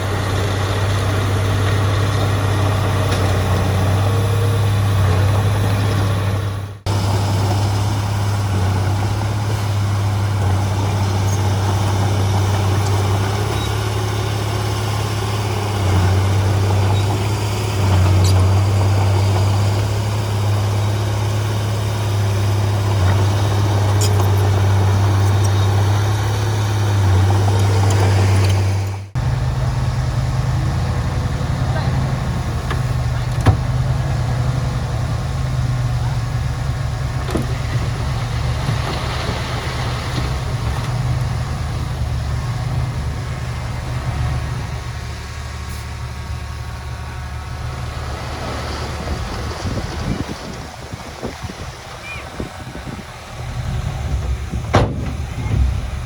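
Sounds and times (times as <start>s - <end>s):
heavy diesel engine humming: 0.0s - 56.0s.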